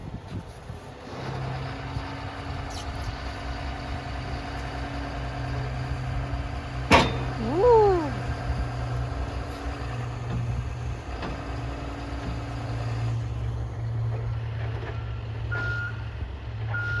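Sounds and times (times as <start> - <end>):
diesel engine idling: 1.4 - 17.0.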